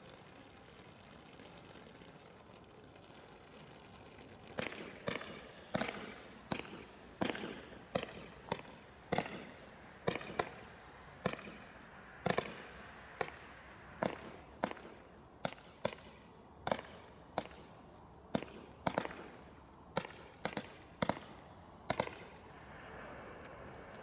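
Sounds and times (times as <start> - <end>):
fireworks bangs with crackle: 3.0 - 17.7, 18.3 - 24.0.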